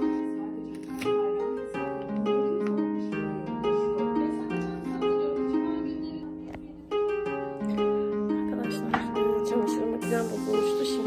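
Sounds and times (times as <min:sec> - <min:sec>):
plucked harp-like melody: 0:00.0 - 0:11.0.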